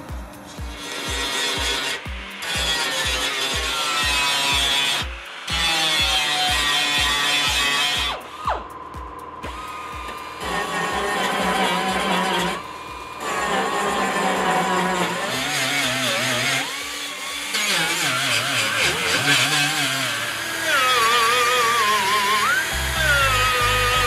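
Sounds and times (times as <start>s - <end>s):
die grinder whining on metal: 0.0s - 24.0s.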